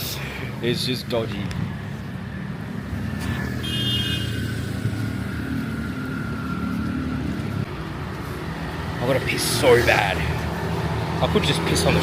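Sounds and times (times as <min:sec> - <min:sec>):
vehicle engine passing: 0:01.4 - 0:12.0.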